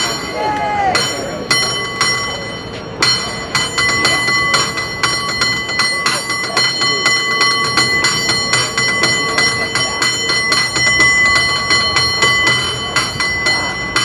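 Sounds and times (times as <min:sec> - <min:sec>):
cable car bell clanging: 0:00.0 - 0:14.0.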